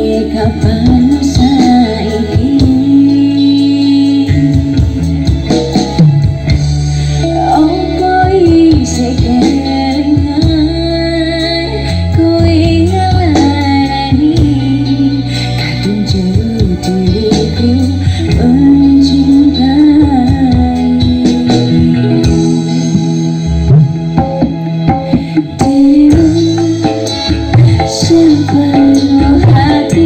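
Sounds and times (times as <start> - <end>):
song with female vocals and bass: 0.0 - 30.0.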